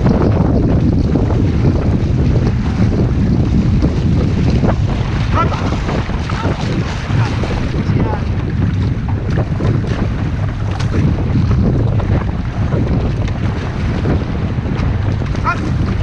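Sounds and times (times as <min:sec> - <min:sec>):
paddles splashing: 0:00.0 - 0:16.0
water splashing against hull: 0:00.0 - 0:16.0
wind buffeting microphone: 0:00.0 - 0:16.0.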